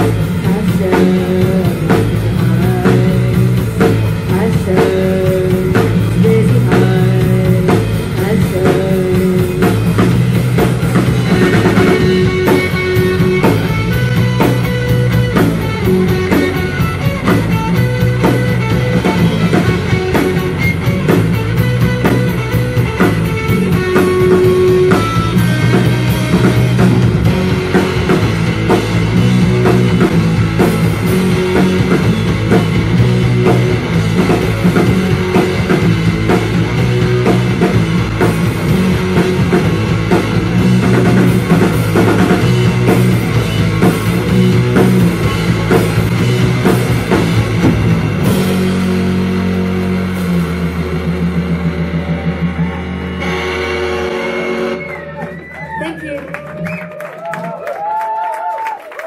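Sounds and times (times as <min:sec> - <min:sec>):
drum kit beat: 0:00.0 - 0:58.6
electric guitars: 0:00.0 - 0:59.0.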